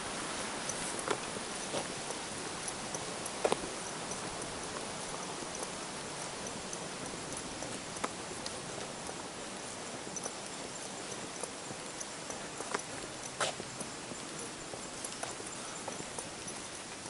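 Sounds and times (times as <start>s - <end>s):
footsteps on paved trail: 0.0s - 17.0s
steady outdoor hiss: 0.0s - 17.0s.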